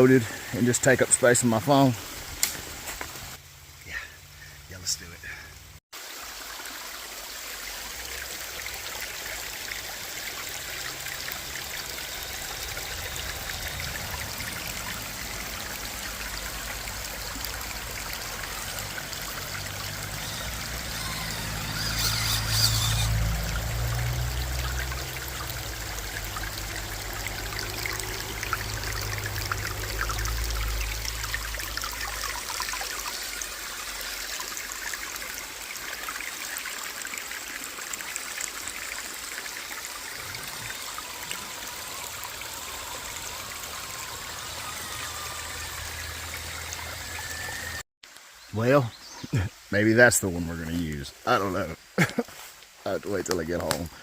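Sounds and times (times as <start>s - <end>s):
stream water running over rocks: 0.0s - 54.0s.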